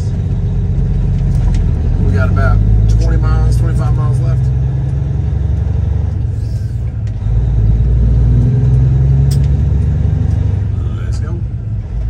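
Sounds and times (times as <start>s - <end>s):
road rumble: 0.0s - 12.0s
truck diesel engine drone: 0.0s - 12.0s.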